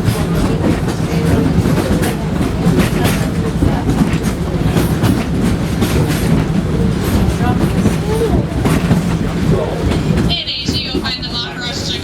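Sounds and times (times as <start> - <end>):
train rumbling on track: 0.0 - 12.0
wheels clacking over rails: 0.0 - 12.0.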